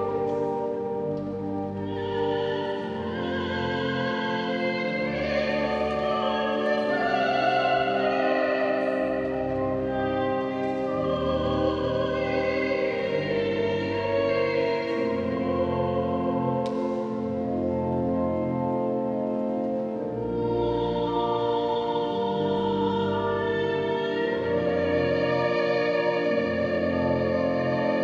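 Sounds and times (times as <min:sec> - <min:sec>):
slow classical music: 0:00.0 - 0:28.0.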